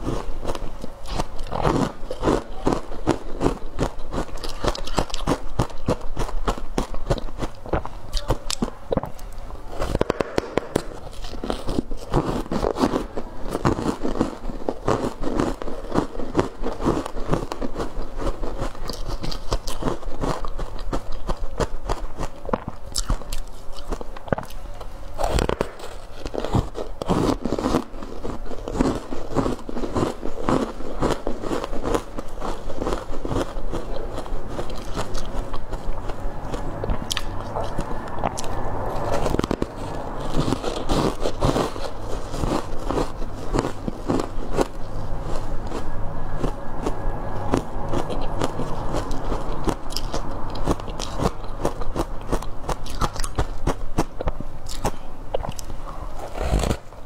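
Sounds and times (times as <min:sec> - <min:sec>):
ice crunching between teeth: 0:00.0 - 0:57.0.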